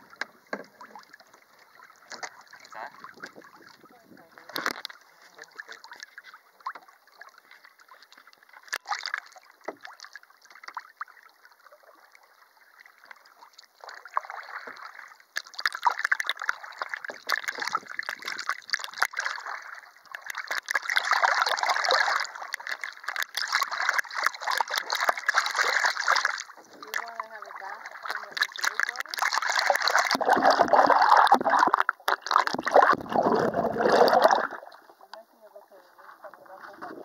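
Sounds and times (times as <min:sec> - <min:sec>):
water lapping against a canoe: 0:00.0 - 0:37.0.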